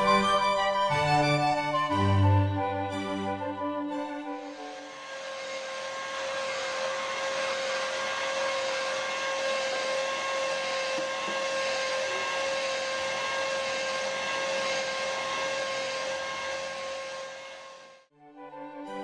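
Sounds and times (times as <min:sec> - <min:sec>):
electric polisher whining: 0:00.0 - 0:18.1.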